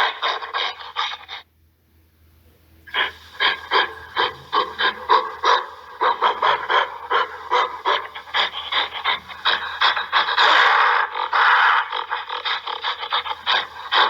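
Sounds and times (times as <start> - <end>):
gorilla grunting: 0.0 - 1.4, 2.9 - 14.0.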